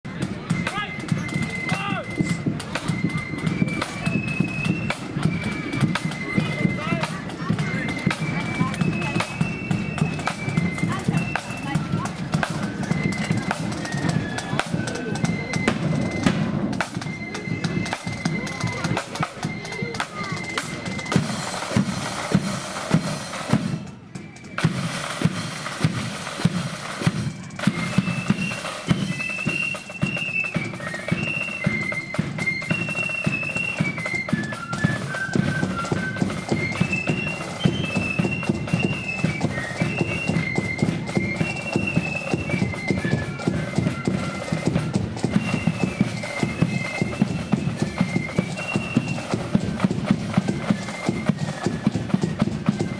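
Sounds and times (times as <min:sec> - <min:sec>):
rapid drumming: 0:00.0 - 0:52.9
flute melody: 0:00.1 - 0:52.9.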